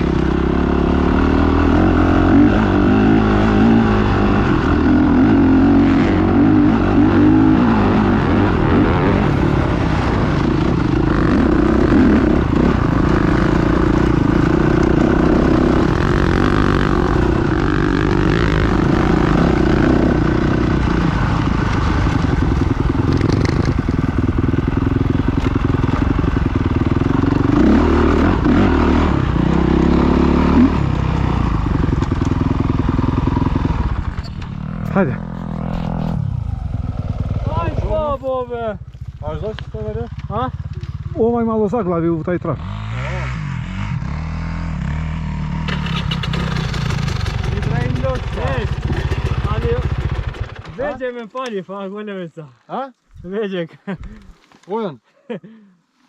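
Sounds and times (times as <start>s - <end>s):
motocross bike engine revving: 0.0s - 51.1s.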